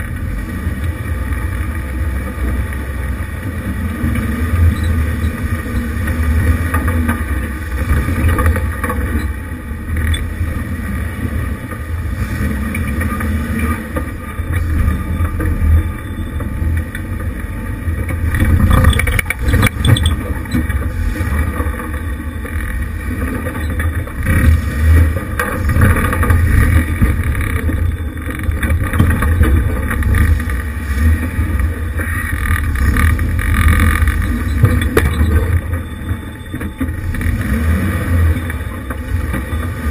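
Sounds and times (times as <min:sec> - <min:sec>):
car engine running at low revs: 0:00.0 - 0:39.9.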